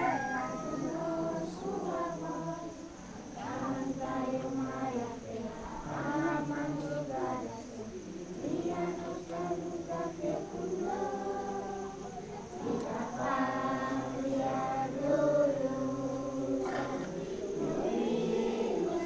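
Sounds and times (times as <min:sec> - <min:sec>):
children singing together: 0:00.0 - 0:19.0.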